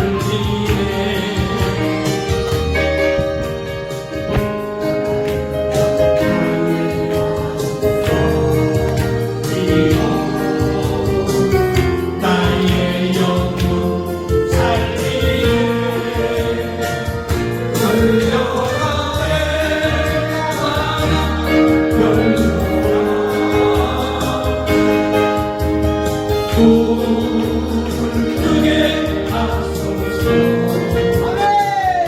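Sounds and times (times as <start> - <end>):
gospel song with singing voices: 0.0 - 32.0.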